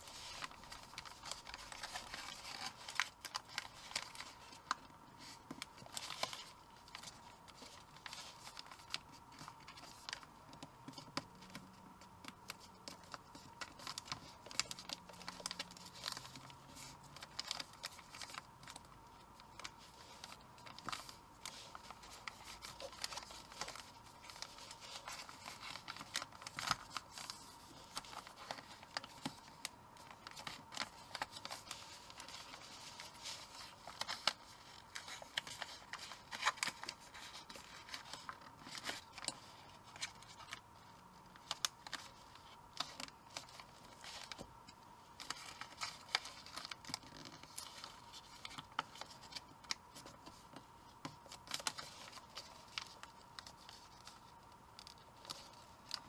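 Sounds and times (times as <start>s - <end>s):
paper crinkling and rustling: 0.0s - 56.0s.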